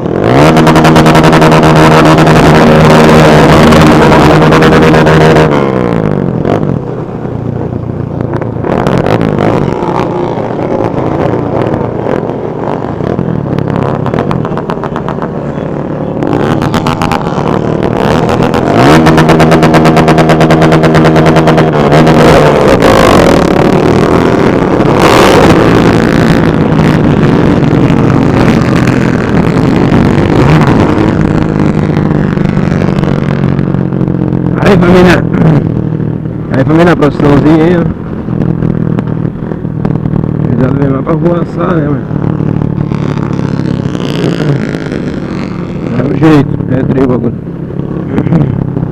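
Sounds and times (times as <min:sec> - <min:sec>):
motorcycle engines revving: 0:00.0 - 0:48.9.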